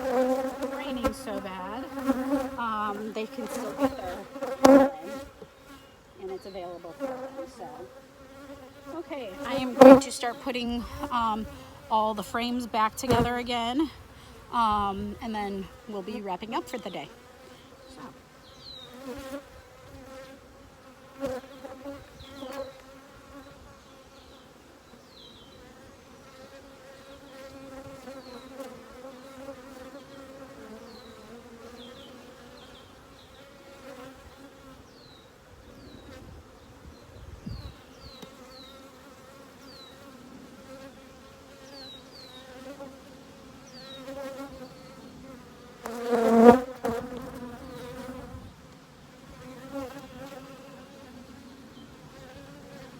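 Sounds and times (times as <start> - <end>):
bees buzzing: 0.0 - 52.9.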